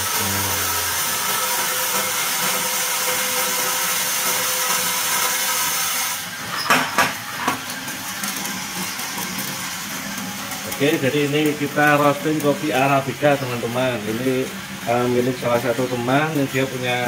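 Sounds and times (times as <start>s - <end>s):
coffee beans pouring into drum: 0.0s - 17.0s
coffee roaster running: 0.0s - 17.0s.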